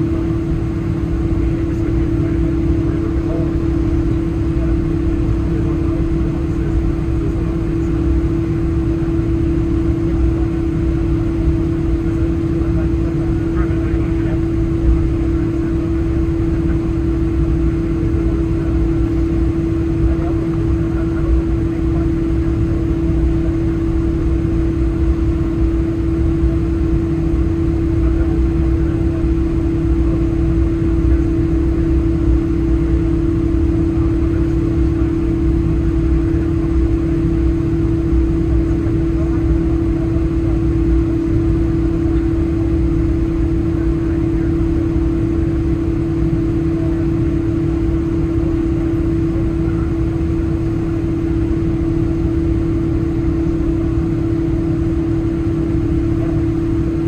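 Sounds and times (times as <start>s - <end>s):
airplane cabin rumble: 0.0s - 57.0s
loud engine hum: 0.0s - 57.0s.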